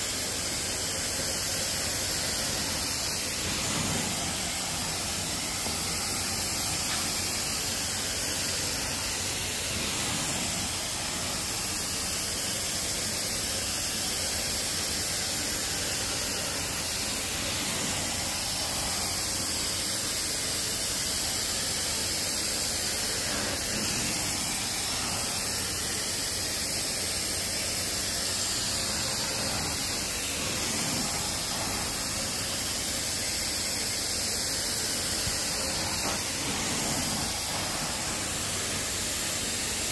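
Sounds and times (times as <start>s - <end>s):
carpet extraction wand hissing: 0.0s - 39.9s.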